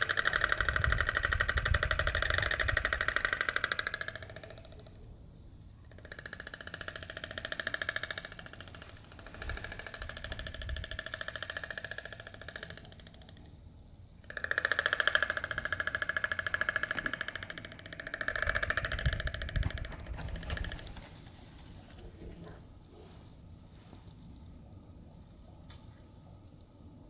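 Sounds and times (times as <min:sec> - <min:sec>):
storks bill-clattering: 0:00.0 - 0:05.0, 0:05.9 - 0:13.5, 0:14.2 - 0:23.4.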